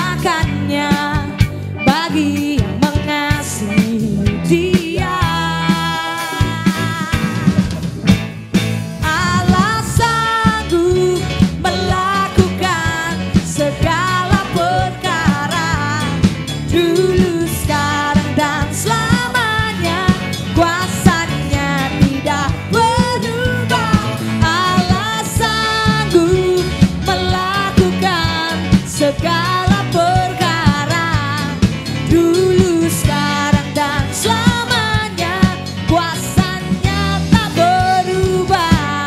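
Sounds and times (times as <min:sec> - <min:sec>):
person singing: 0:00.0 - 0:07.9, 0:09.0 - 0:39.0
band with bass and drums: 0:00.0 - 0:39.0.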